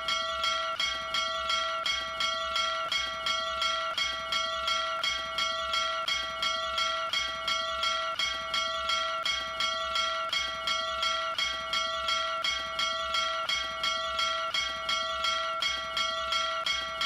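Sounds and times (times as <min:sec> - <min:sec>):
small brass bell clanging: 0:00.0 - 0:17.0.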